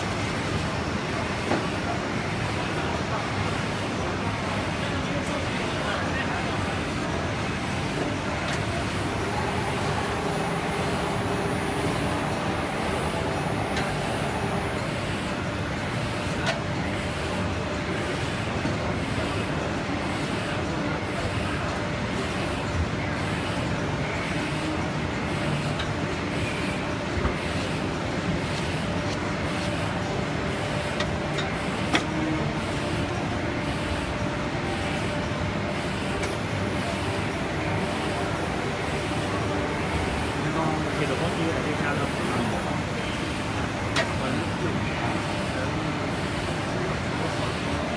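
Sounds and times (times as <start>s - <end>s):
machine running noise: 0.0s - 47.9s.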